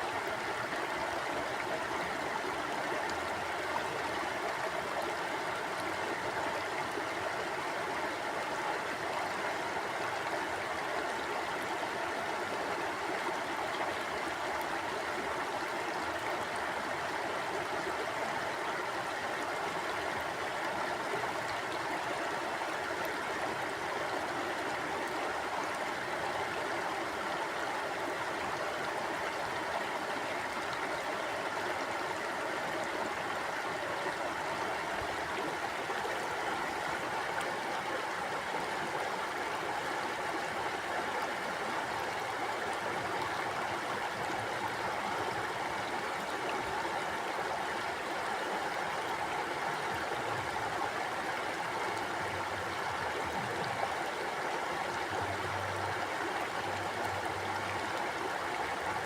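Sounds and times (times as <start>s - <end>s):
stream water rushing and gurgling: 0.0s - 59.0s.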